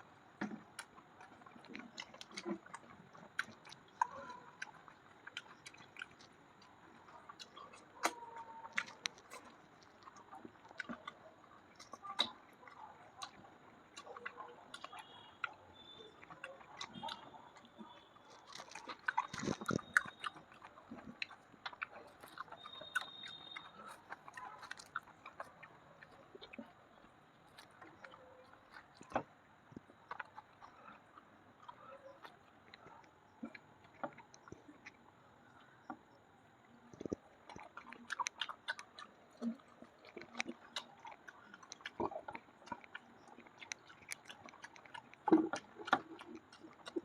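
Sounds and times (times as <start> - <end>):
close chewing and mouth sounds: 0.0 - 47.0.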